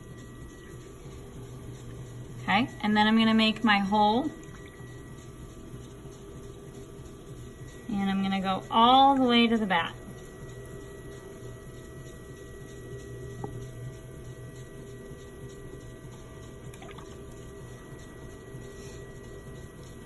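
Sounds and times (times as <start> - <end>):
potter's wheel running: 0.0 - 20.0.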